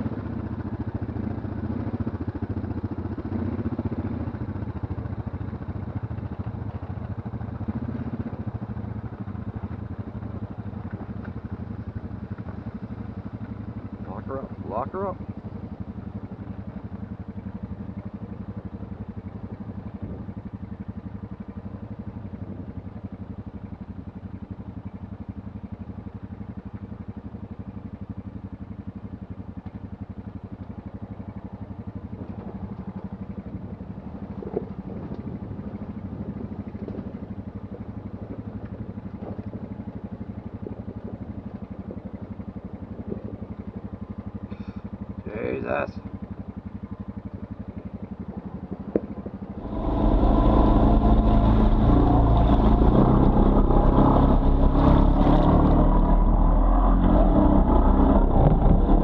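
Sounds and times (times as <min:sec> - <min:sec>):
atv engine at low revs: 0:00.0 - 0:59.0.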